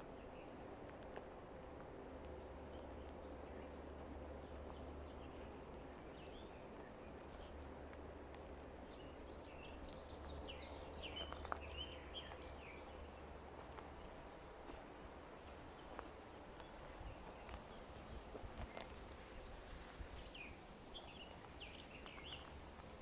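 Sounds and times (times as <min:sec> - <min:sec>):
low steady rumble: 0:00.0 - 0:23.0
songbird chirping: 0:02.2 - 0:23.0.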